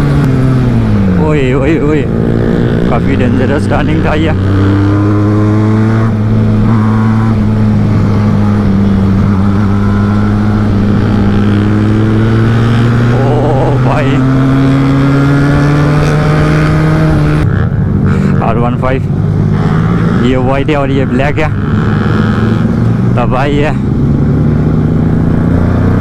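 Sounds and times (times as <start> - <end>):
motorcycle engine: 0.0 - 26.0.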